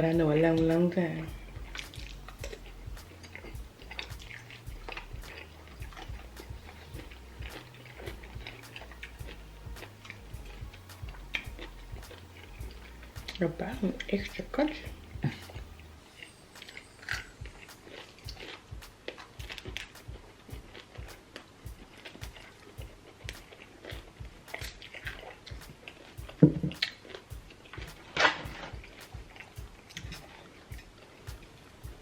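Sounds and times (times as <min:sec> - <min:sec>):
chewing and wet mouth clicks: 0:00.4 - 0:32.0.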